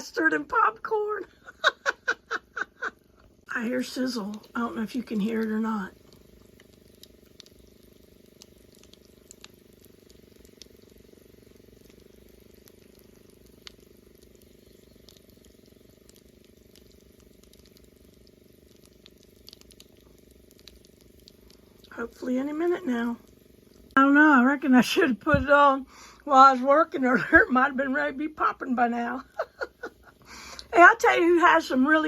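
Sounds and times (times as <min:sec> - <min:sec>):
faint sizzling with ticks: 0:00.0 - 0:32.0
steady low hum: 0:00.0 - 0:32.0.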